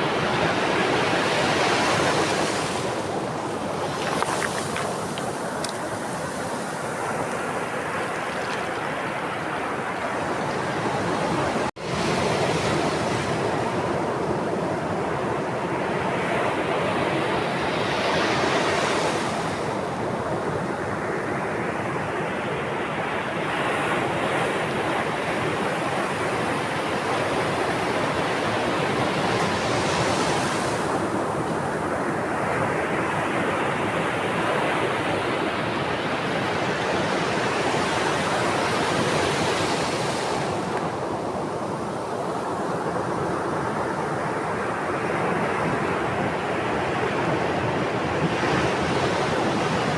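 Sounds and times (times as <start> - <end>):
sea waves breaking on shore: 0.0 - 20.0, 23.4 - 49.9.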